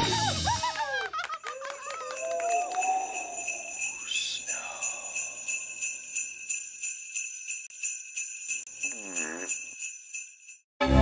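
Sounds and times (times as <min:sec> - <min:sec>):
jingle bells shaken: 0:01.4 - 0:10.6.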